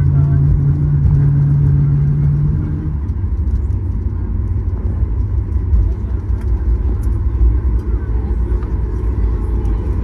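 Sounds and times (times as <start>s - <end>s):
airplane cabin rumble: 0.0s - 10.0s
steady low hum: 0.0s - 10.0s.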